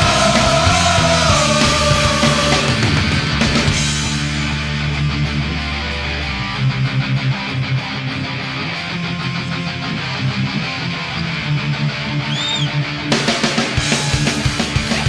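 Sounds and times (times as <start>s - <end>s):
punk rock music: 0.0s - 15.0s.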